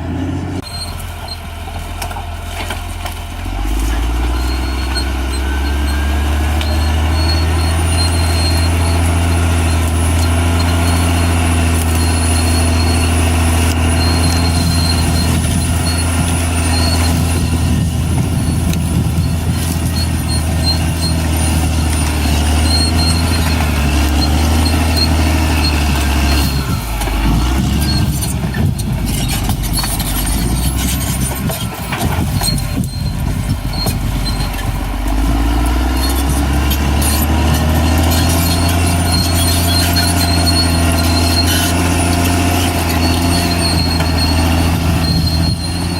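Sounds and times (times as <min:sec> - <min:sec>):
bulldozer diesel engine under load: 0:00.0 - 0:45.9
knocks and clanks: 0:07.5 - 0:45.9.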